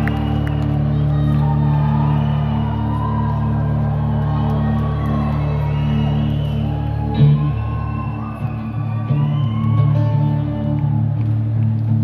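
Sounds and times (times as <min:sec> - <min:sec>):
guitar: 0:00.0 - 0:12.0.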